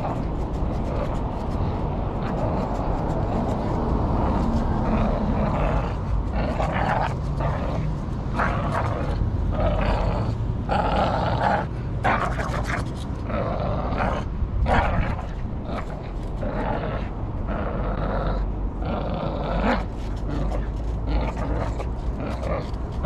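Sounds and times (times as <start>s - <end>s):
dog growling: 0.0s - 23.0s.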